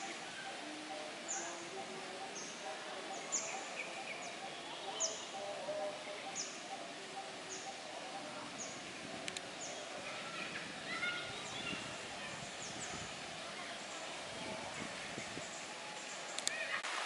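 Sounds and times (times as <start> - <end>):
bird chirping: 0.0 - 16.8
outdoor background noise: 0.0 - 17.0.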